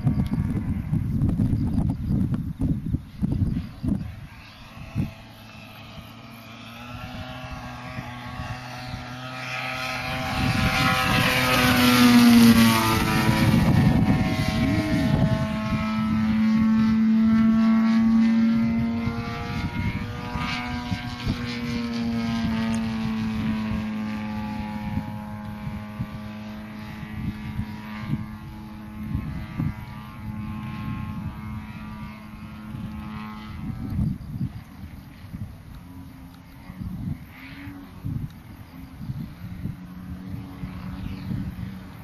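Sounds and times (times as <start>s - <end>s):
model airplane engine and propeller: 0.0s - 42.0s.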